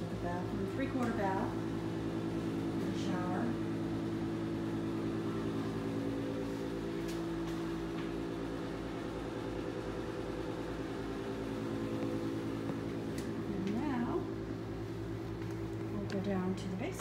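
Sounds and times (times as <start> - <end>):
air conditioner hum: 0.0 - 17.0.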